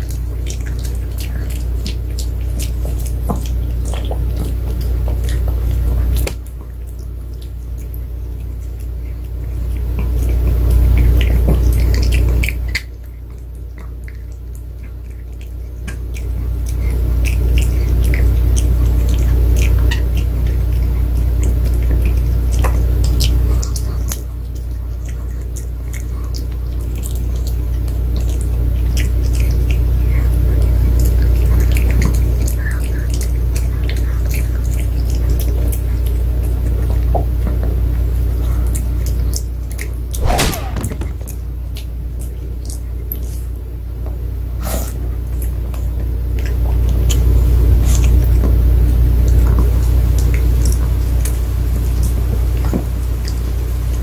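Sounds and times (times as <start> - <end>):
dog crunching a treat: 0.0 - 54.0
steady low hum: 0.0 - 54.0.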